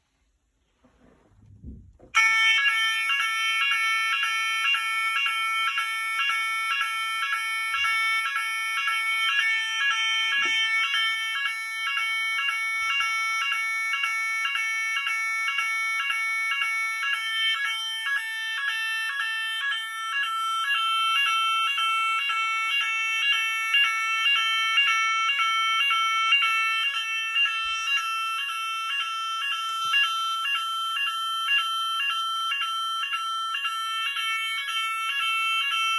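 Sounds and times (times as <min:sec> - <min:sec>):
pulsing fire alarm: 0:01.6 - 0:35.9
steady high alarm tone: 0:02.0 - 0:35.9.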